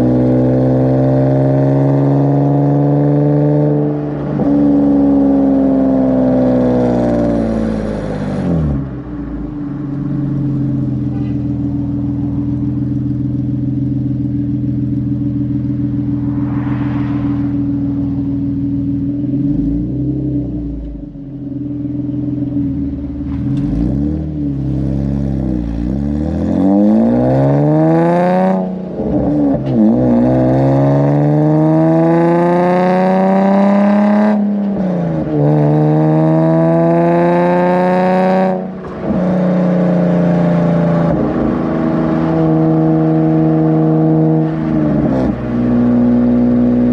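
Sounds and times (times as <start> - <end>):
car engine revving while driving: 0.0 - 46.9.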